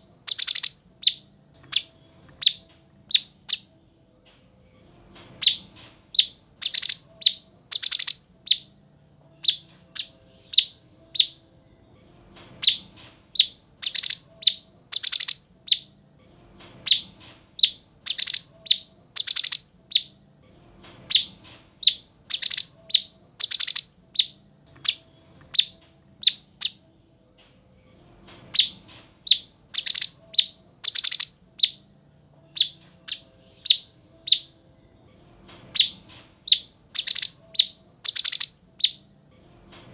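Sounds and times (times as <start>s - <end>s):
songbird chirping: 0.0s - 3.8s, 5.3s - 15.9s, 16.8s - 20.2s, 21.0s - 26.9s, 28.6s - 34.9s, 35.6s - 39.1s.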